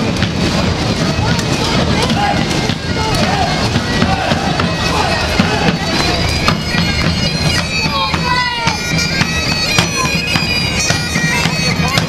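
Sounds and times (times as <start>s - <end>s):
bagpipes playing a march: 0.0s - 12.0s
side drums beating: 0.0s - 12.0s.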